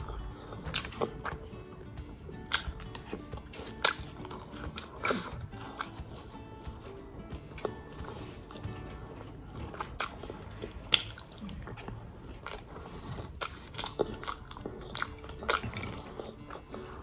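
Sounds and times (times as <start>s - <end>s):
wet mouth clicks: 0.0s - 8.7s, 9.3s - 17.0s
person chewing and slurping noodles: 0.0s - 17.0s.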